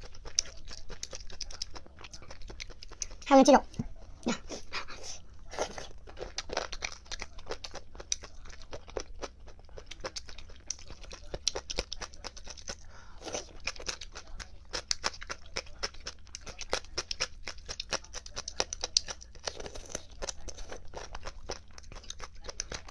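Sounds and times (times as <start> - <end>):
chewing crunchy chicken: 0.0 - 3.3, 4.0 - 22.9.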